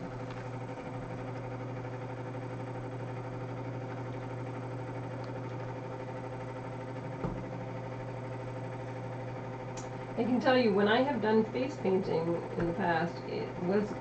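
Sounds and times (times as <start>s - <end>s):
buzzy low hum: 0.0s - 14.0s.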